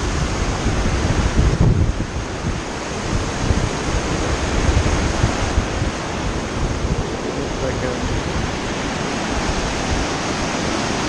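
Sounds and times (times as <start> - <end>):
river rapids rushing: 0.0 - 11.0
wind buffeting microphone: 0.0 - 11.0.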